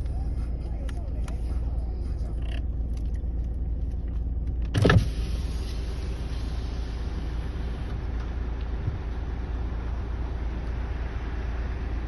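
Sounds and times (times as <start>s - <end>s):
car idling: 0.0s - 12.0s.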